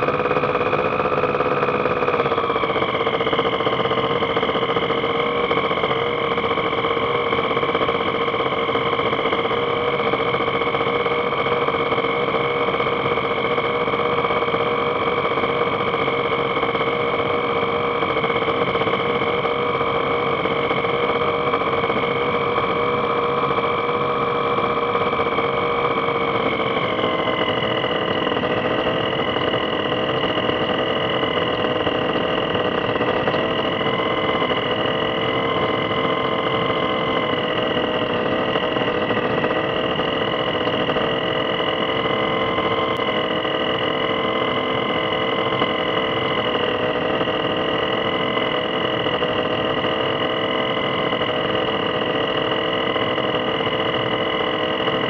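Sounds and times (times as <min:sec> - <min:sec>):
light aircraft engine running: 0:00.0 - 0:55.0.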